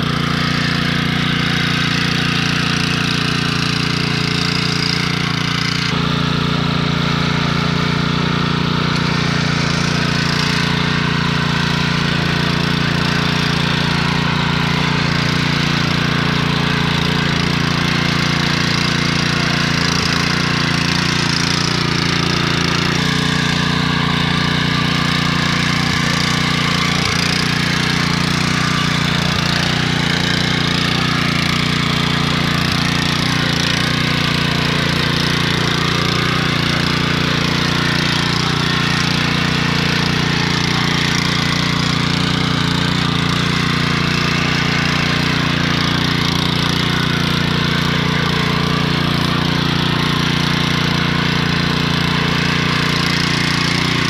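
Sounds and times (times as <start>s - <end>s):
tiller engine running: 0.0s - 54.0s
tines churning through soil: 0.0s - 54.0s.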